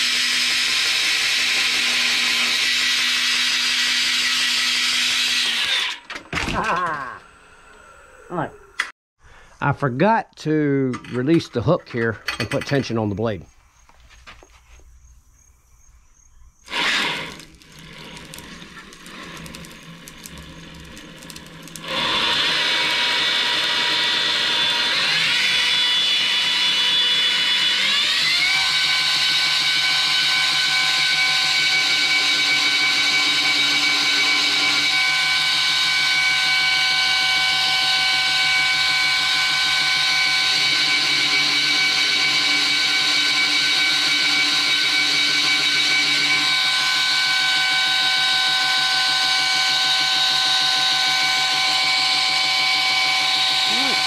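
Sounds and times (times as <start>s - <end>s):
belt grinder motor running: 0.0s - 8.9s, 16.6s - 54.0s.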